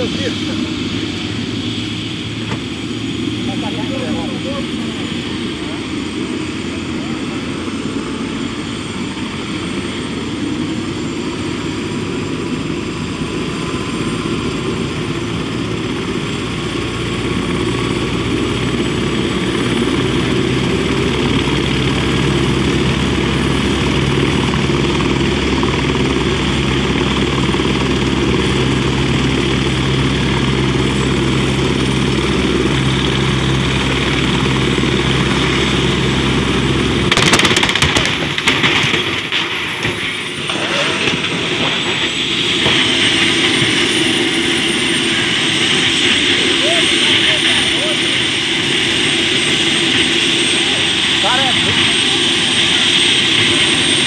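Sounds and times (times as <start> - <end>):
helicopter rotor beat: 0.0 - 54.0
turbine whine: 0.0 - 54.0.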